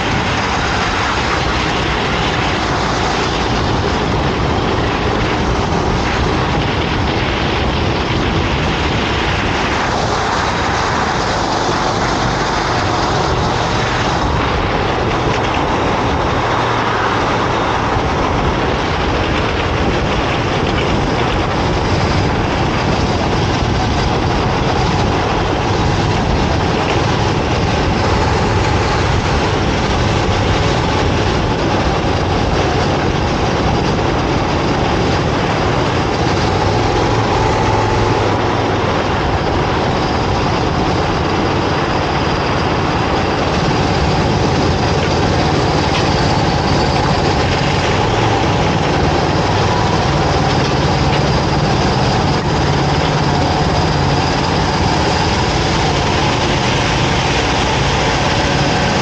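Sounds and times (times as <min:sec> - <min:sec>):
go-kart engine running: 0:00.0 - 0:59.0
wind and tyre noise: 0:00.0 - 0:59.0.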